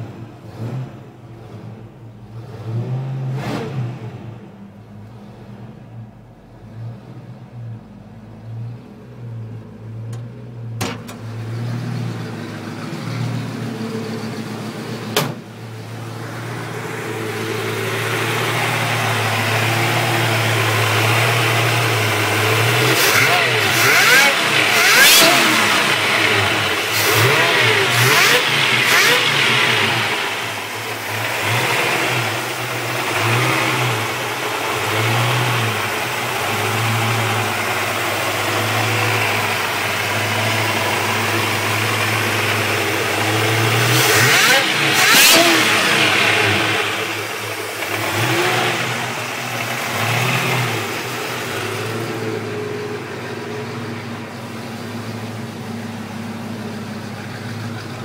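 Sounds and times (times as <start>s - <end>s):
hot-rod engine idling and revving: 0.0s - 58.0s.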